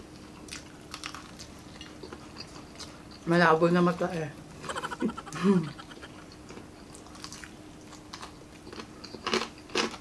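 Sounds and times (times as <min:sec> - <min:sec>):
chewing and crunching fried chicken: 0:00.0 - 0:10.0.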